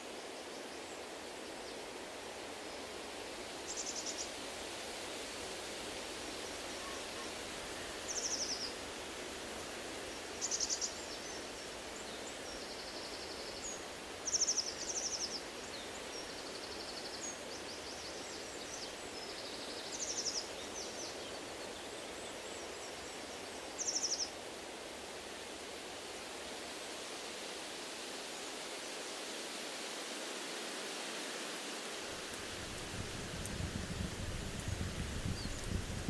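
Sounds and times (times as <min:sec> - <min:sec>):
wind rushing through trees: 0:00.0 - 0:36.0.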